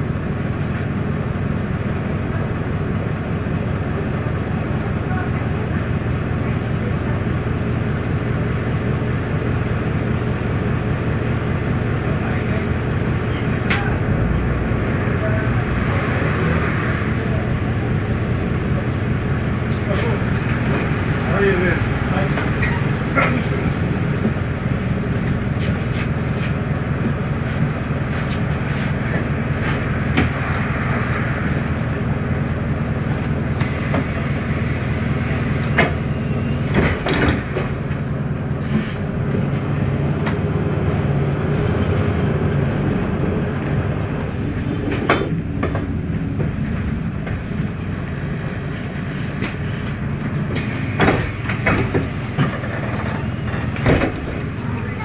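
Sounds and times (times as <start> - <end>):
bus drivetrain rumble: 0.0 - 55.0.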